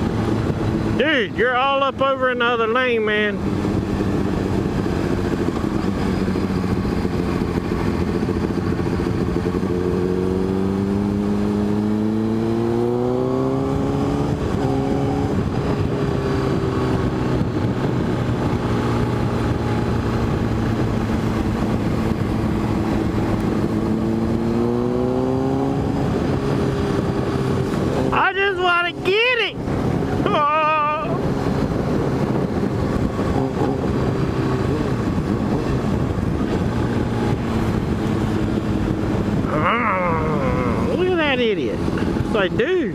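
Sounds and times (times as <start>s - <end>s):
motorcycle engine accelerating: 0.0s - 42.9s
wind noise: 0.0s - 42.9s.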